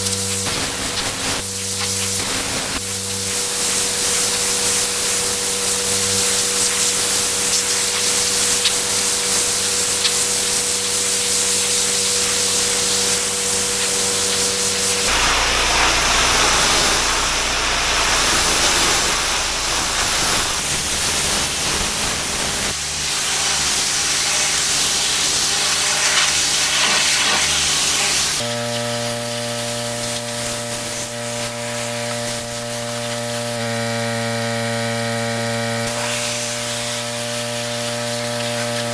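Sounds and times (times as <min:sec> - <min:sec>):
pressure washer water jet hiss: 0:00.0 - 0:34.1, 0:35.8 - 0:38.9
pressure washer motor hum: 0:00.0 - 0:38.9.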